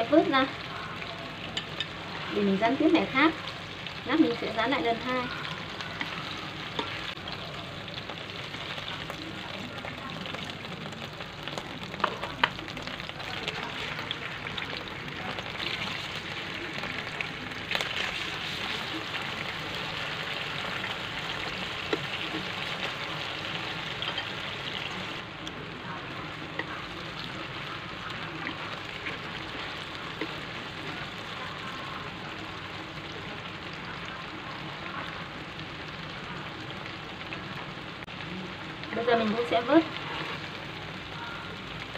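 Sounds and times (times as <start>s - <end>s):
pork sizzling in hot oil: 0.0s - 41.9s.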